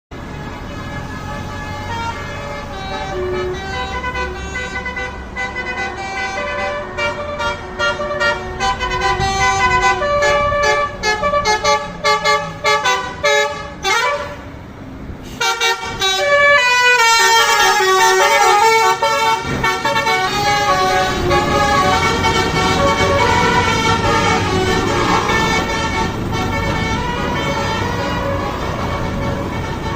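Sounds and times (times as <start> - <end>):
bus engine running: 0.1 - 29.9
bus horn playing melody: 0.2 - 14.6, 15.2 - 29.9.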